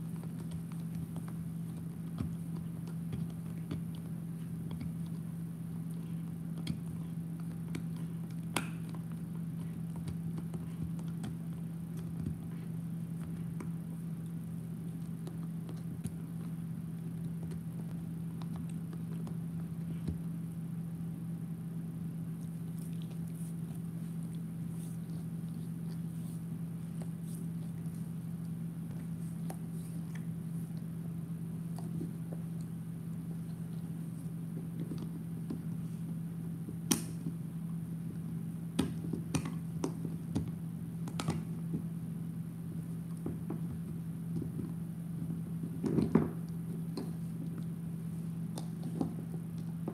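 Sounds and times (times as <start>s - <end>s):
dog gnawing on a chew: 0.0s - 20.9s, 22.0s - 41.9s.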